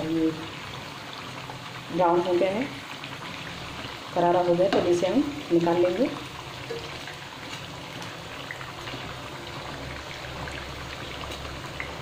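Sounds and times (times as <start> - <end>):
oil sizzling and bubbling: 0.0 - 12.0.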